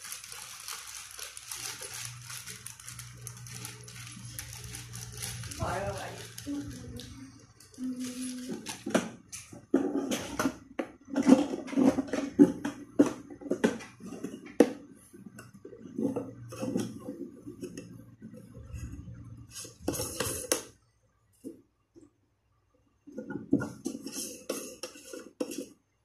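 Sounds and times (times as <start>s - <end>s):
plastic scraping: 0.0s - 7.2s, 7.8s - 20.7s, 23.1s - 25.8s.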